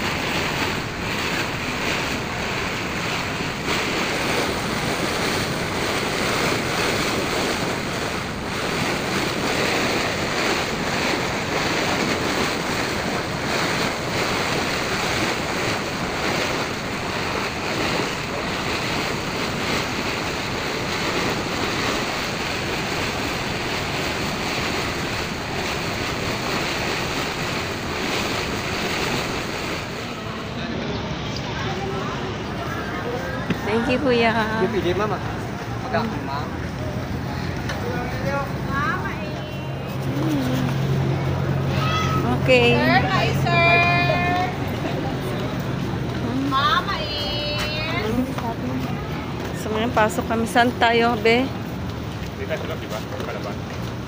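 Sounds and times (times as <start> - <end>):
water rushing past boat hull: 0.0 - 54.0
wind buffeting microphone: 0.0 - 54.0.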